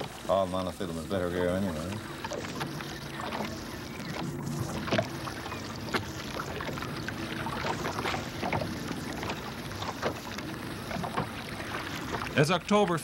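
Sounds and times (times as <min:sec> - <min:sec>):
low boat motor hum: 0:00.0 - 0:13.0
water washing: 0:00.0 - 0:13.0.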